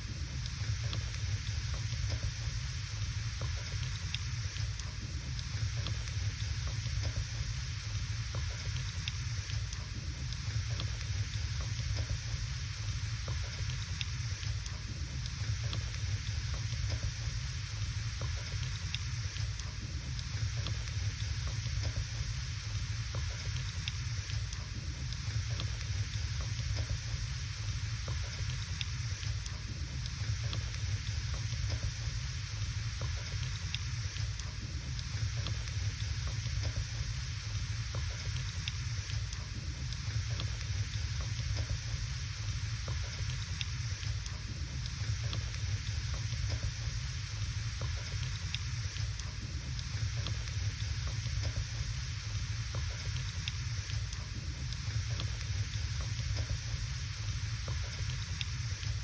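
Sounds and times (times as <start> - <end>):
wood fire burning: 0.0 - 59.0.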